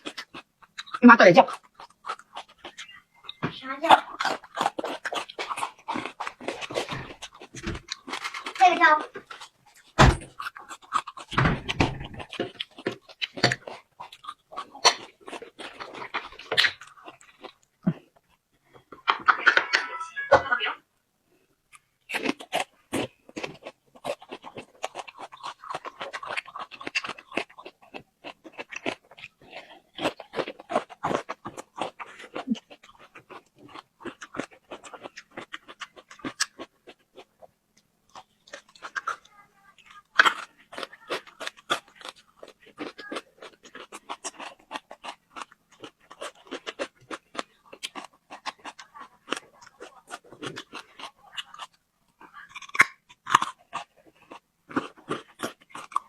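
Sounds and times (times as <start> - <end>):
person chewing crunchy food: 0.0 - 19.8, 21.6 - 56.0.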